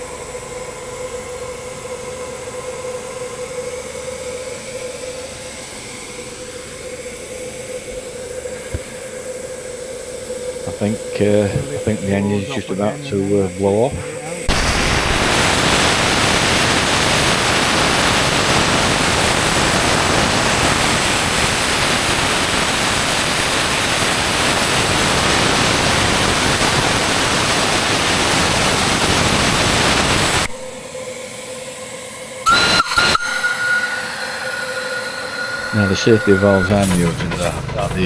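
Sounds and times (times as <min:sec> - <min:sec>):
steam hissing from safety valves: 0:00.0 - 0:38.0.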